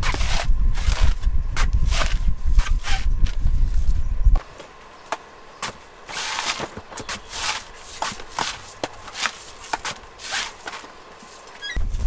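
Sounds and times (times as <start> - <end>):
coconut husk scraping on blade: 0.0 - 3.8, 5.6 - 11.8.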